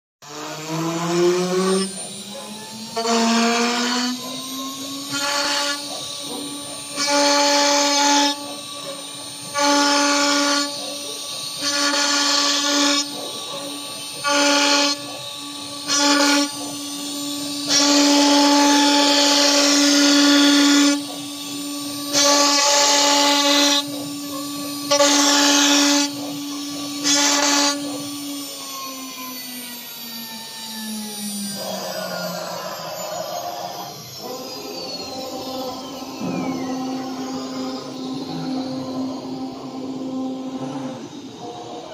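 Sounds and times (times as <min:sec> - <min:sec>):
router spindle whining: 0:00.2 - 0:41.9.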